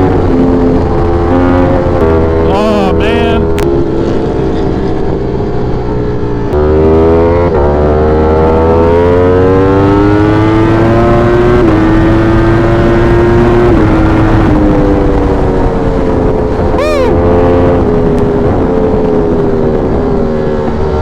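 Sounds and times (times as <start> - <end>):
wind noise: 0.0 - 7.6, 8.2 - 21.0
motorcycle engine accelerating: 0.0 - 21.0.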